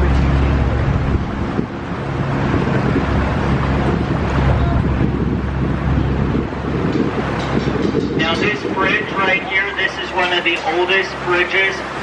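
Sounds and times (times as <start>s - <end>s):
boat motor humming: 0.0s - 12.0s
wind buffeting microphone: 0.0s - 12.0s.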